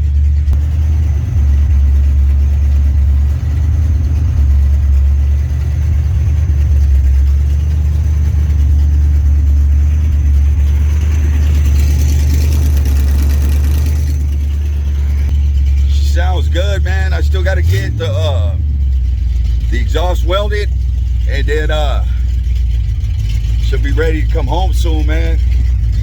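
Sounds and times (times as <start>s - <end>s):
v eight engine idling: 0.0s - 26.0s.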